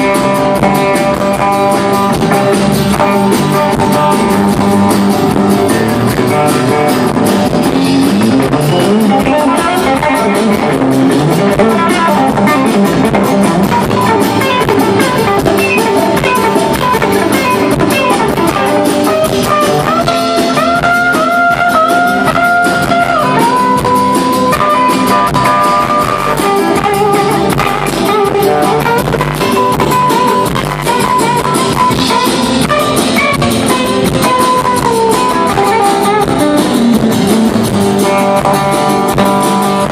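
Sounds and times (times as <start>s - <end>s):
lead instrument long notes: 0.0s - 39.9s
live band playing: 0.0s - 39.9s.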